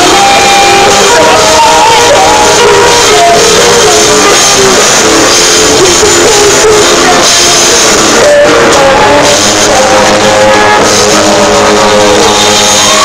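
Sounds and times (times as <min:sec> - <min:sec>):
drum kit: 0:00.0 - 0:13.0
electric guitar: 0:00.0 - 0:13.0
person singing long notes: 0:00.0 - 0:13.0.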